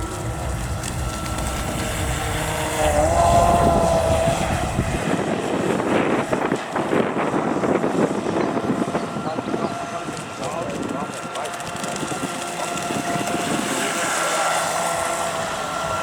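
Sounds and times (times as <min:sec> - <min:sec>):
model boat motor whining: 0:00.0 - 0:16.0
rough rushing noise: 0:00.0 - 0:16.0.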